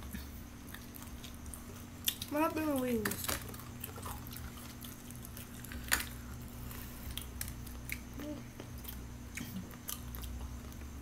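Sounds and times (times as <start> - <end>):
crunching fried chicken: 0.5 - 11.0.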